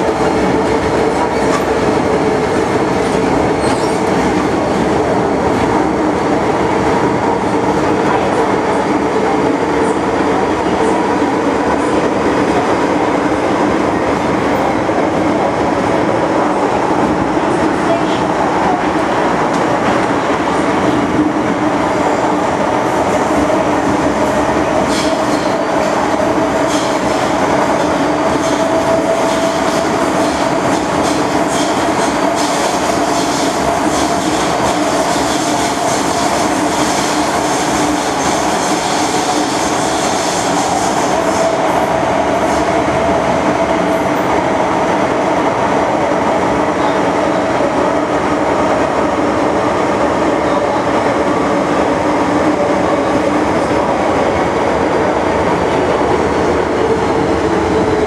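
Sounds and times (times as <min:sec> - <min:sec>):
train wheels roaring on rail: 0:00.0 - 0:58.0.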